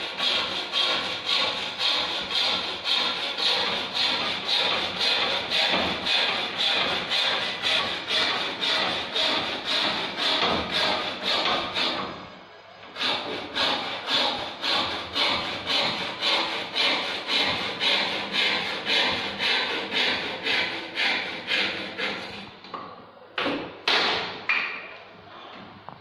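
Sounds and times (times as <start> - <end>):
hand saw cutting wood: 0.0 - 12.2, 13.0 - 22.5.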